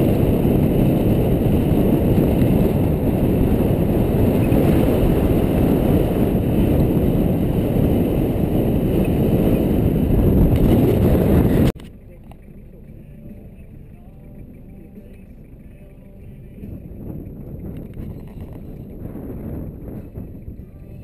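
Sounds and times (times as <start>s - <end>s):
loud low rumble: 0.0s - 21.0s.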